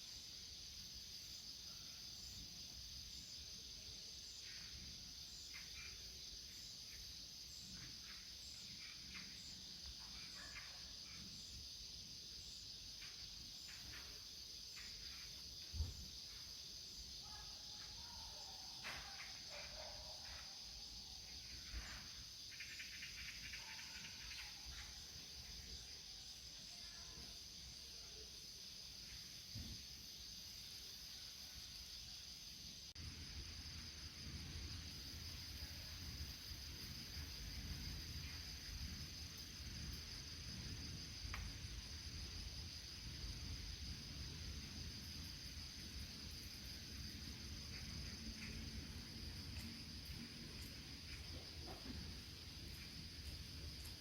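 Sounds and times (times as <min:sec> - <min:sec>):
insect buzz: 0:00.0 - 0:54.0.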